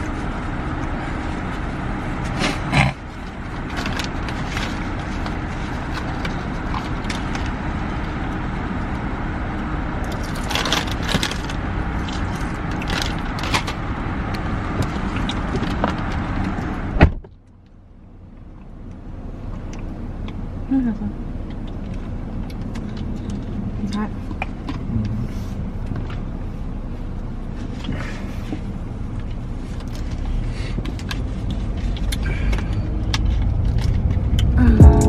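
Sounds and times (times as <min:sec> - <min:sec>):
car engine and road hum: 0:00.0 - 0:35.0.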